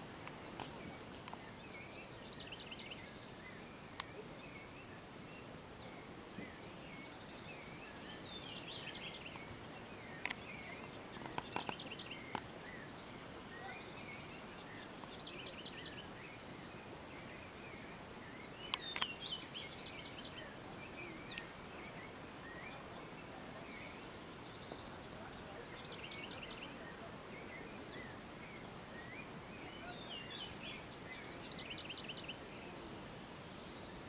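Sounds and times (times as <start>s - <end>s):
steady outdoor hiss: 0.0s - 34.0s
birds chirping and trilling: 0.2s - 34.0s.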